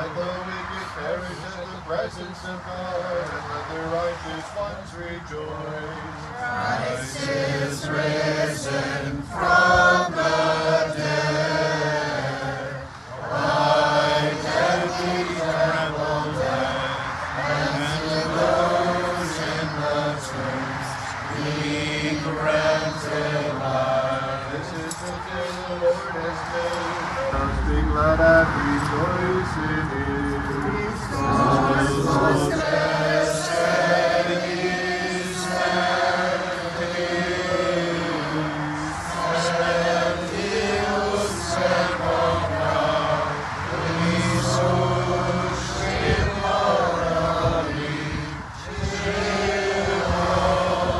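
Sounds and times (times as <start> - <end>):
group chanting a hymn: 0.0 - 50.9.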